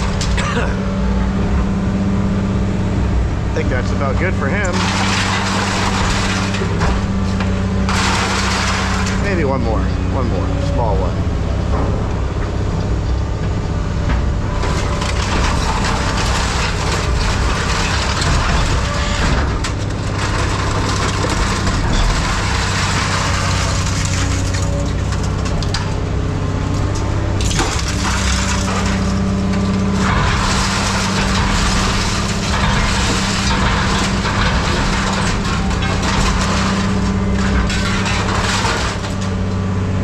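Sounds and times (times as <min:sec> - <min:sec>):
diesel engine running: 0:00.0 - 0:40.0
grapple crunching scrap metal: 0:00.0 - 0:40.0.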